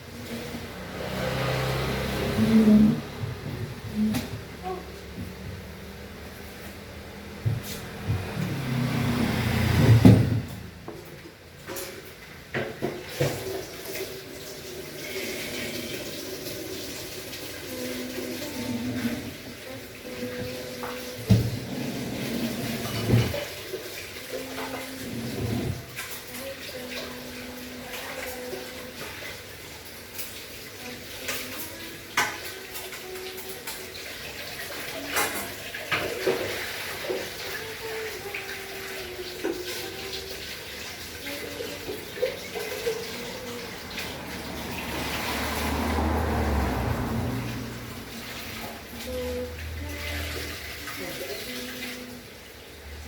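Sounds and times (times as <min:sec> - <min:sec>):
tap water running into sink: 0:07.3 - 0:53.0.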